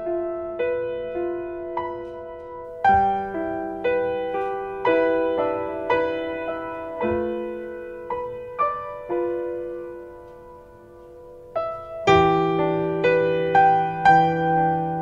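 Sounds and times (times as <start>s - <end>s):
gentle solo piano: 0.0s - 15.0s.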